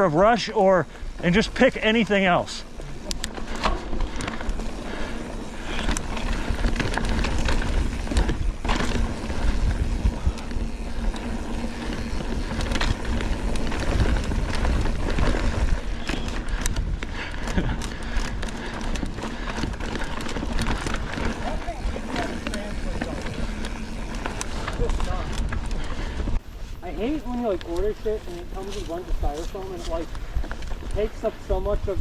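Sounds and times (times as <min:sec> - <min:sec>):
bike rattling and clicking: 0:00.0 - 0:32.0
bike tyres on dirt: 0:00.0 - 0:32.0
wind buffeting microphone: 0:00.8 - 0:32.0.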